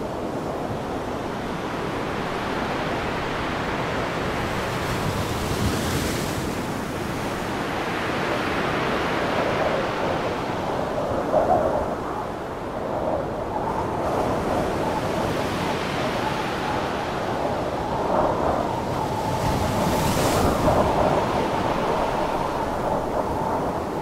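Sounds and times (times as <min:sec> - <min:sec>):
strong wind blowing: 0:00.0 - 0:24.0
waves washing onto beach: 0:00.0 - 0:24.0.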